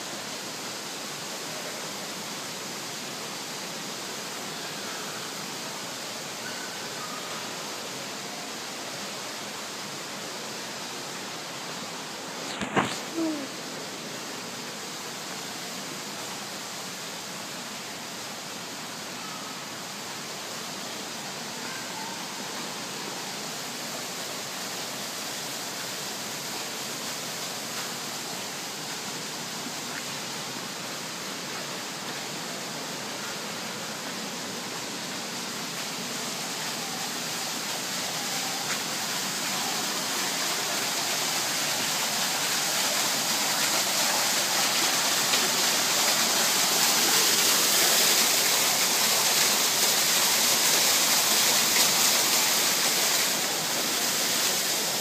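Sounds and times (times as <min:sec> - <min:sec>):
indoor waterfall rushing: 0:00.0 - 0:55.0.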